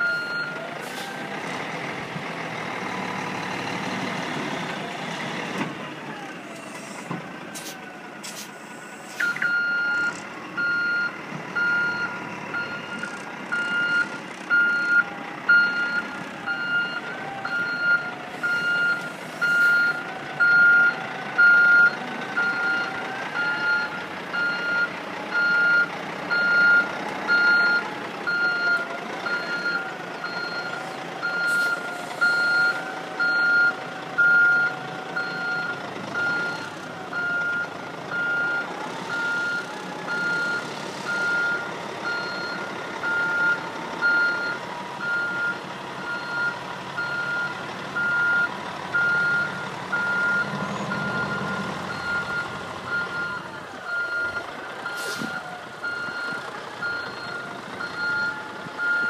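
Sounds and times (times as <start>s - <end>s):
truck backup alarm beeping: 0.0s - 1.3s, 8.6s - 59.0s
diesel engine with whine: 0.0s - 59.0s.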